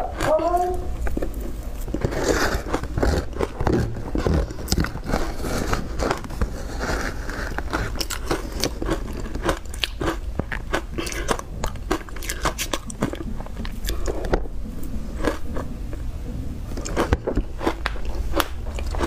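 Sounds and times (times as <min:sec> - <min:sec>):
crunching ice chewing: 0:00.1 - 0:14.3, 0:16.8 - 0:19.0.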